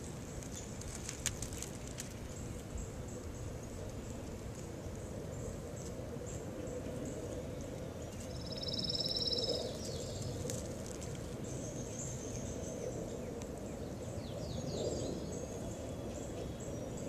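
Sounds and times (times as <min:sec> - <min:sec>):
wild birds calling: 0:02.2 - 0:17.0.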